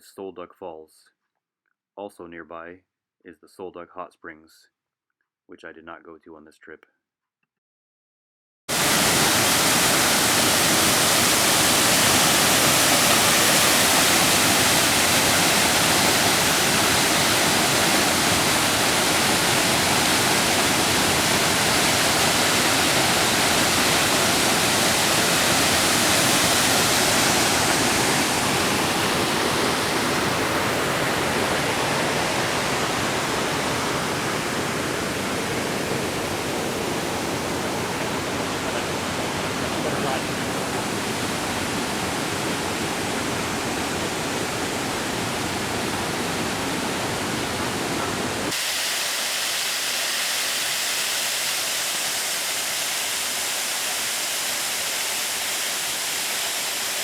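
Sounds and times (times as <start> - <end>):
waterfall rushing: 8.7 - 57.0.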